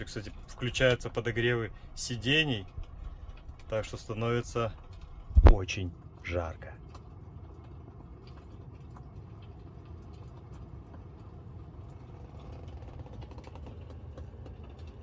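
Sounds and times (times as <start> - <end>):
heater fan blowing air: 0.0 - 15.0
log fire crackling effect: 0.0 - 15.0.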